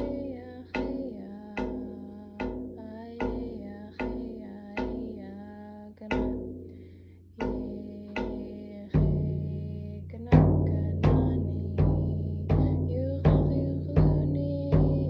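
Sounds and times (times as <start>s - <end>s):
frame drum beaten with a wand: 0.0s - 15.0s.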